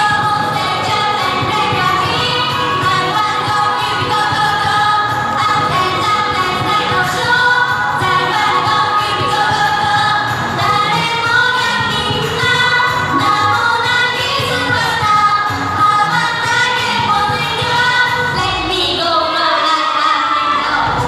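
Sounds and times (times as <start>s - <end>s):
pop song with female vocals: 0.0s - 21.0s.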